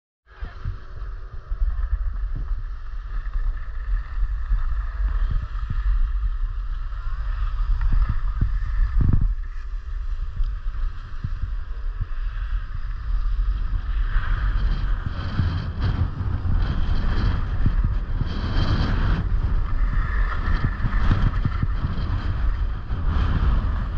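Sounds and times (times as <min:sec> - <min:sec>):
wind buffeting microphone: 0:00.3 - 0:23.9
skis sliding on packed snow: 0:00.4 - 0:23.9.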